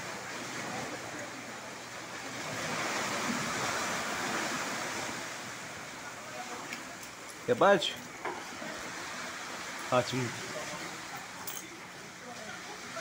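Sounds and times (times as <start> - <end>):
sea waves washing against rocks: 0.0 - 13.0.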